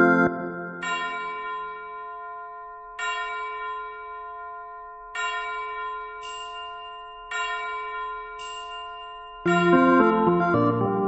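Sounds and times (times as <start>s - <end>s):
bell-like chords ringing: 0.0s - 11.0s.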